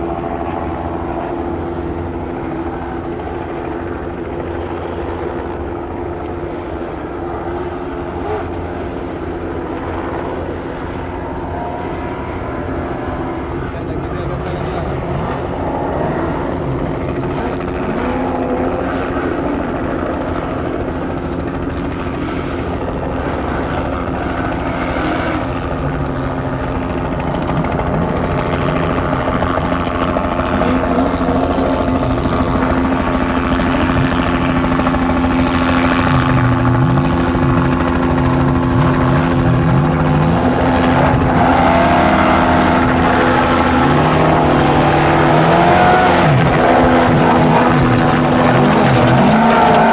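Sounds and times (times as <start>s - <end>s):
mechanical drone: 0.0s - 49.9s
truck engine revving: 0.0s - 49.9s.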